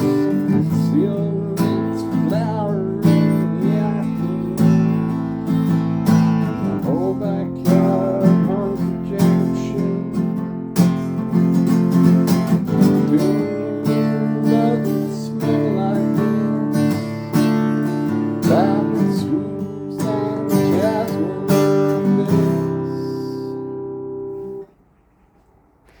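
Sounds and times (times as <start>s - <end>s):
acoustic guitar with sliding notes: 0.0s - 24.8s.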